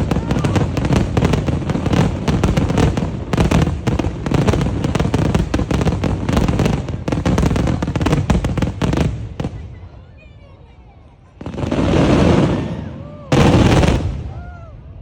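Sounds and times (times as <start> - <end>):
fireworks bangs and crackles: 0.0 - 10.1, 11.3 - 15.0.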